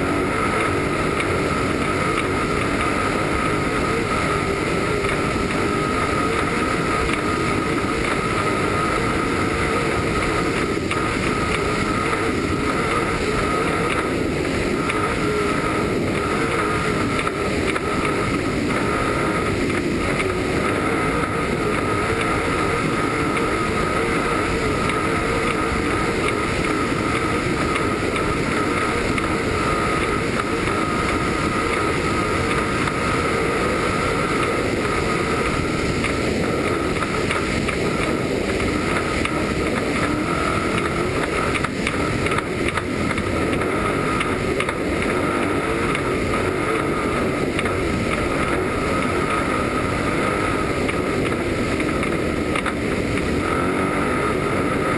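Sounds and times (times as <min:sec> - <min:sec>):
high whine: 0:00.0 - 0:54.9
truck engine drone: 0:00.0 - 0:54.9
wind rush on microphone: 0:00.0 - 0:54.9.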